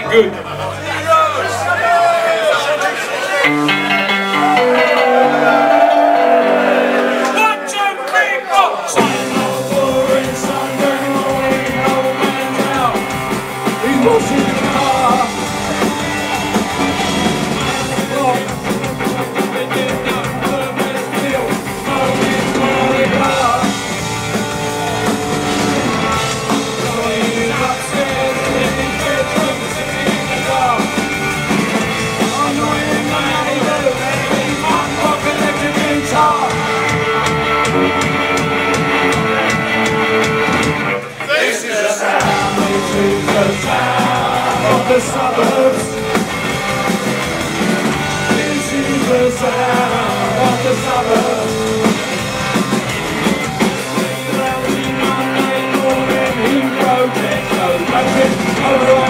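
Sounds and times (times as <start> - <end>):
punk rock band playing live: 3.3 - 7.7, 8.9 - 59.0.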